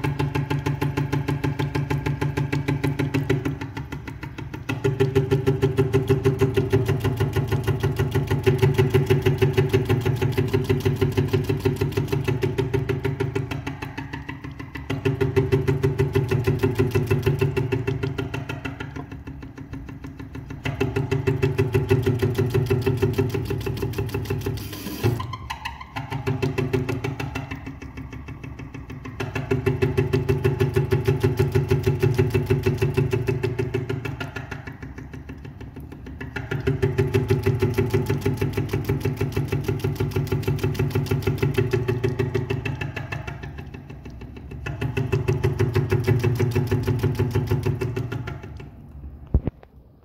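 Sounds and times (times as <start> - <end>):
tap running with pulsing buzz: 0.0 - 49.7.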